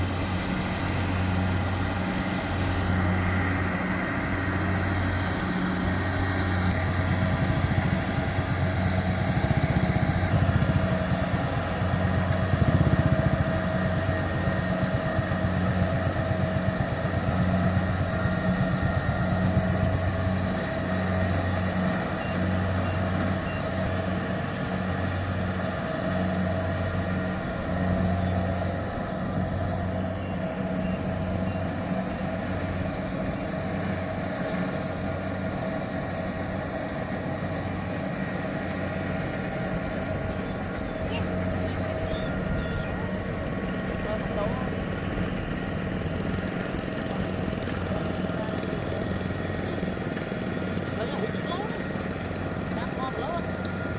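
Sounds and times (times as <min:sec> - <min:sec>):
diesel engine throbbing: 0:00.0 - 0:53.9.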